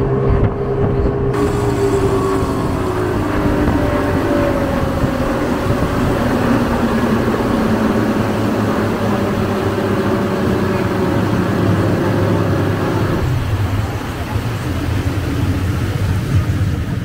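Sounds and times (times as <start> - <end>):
boat engine droning: 0.0 - 17.0
rushing wind and water: 0.0 - 17.0.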